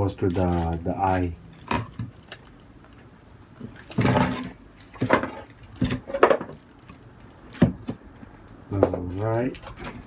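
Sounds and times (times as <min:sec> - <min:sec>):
handling knocks and rustles: 0:00.0 - 0:10.0.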